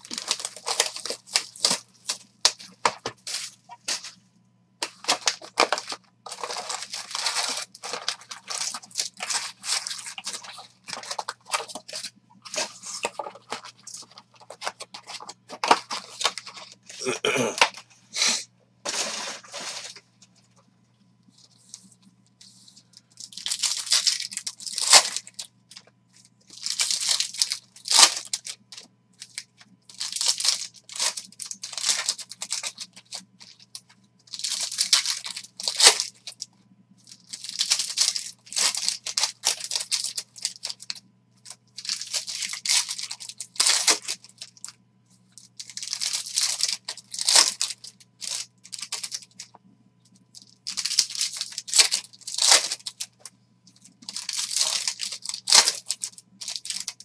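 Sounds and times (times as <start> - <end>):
foil wrappers tearing and crinkling: 0.0 - 4.2, 4.8 - 17.8, 18.9 - 20.0, 23.2 - 25.8, 26.5 - 44.7, 45.4 - 49.5, 50.4 - 57.0.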